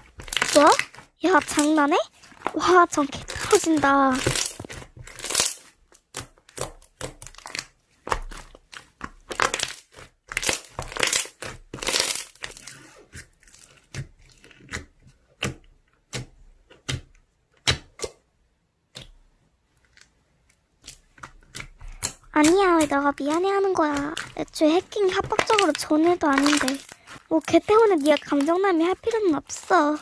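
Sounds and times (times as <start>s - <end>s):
slime squished by hand: 0.0s - 18.1s, 20.8s - 30.0s.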